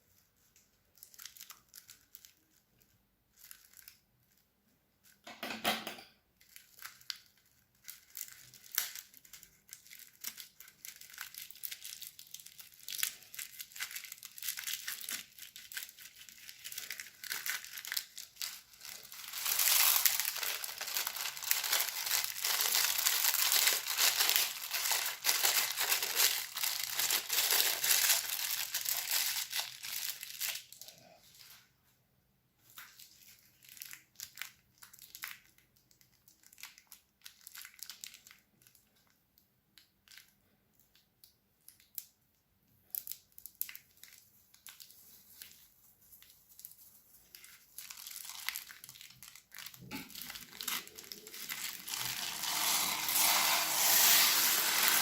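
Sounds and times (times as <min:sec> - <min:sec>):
crunchy slime crackling in plastic bag: 0:00.1 - 0:05.2, 0:06.3 - 0:31.2, 0:32.6 - 0:42.2, 0:42.8 - 0:55.0.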